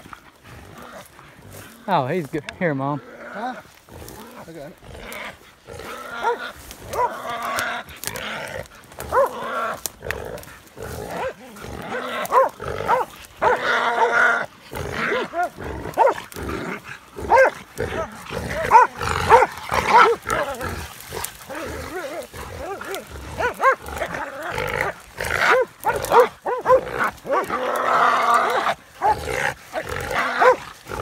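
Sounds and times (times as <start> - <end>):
hunting dogs barking: 4.4 - 31.0.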